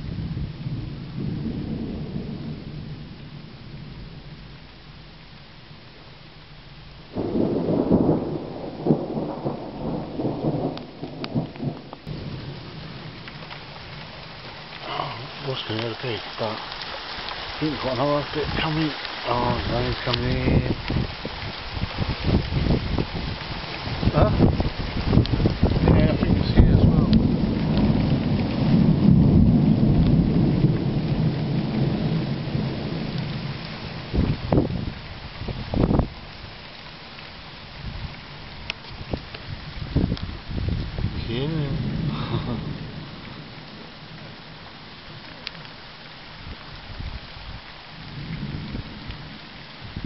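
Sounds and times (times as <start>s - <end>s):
thunder rolling: 0.0s - 16.7s, 17.5s - 36.3s, 37.8s - 45.5s, 46.8s - 50.0s
heavy rain: 0.0s - 50.0s.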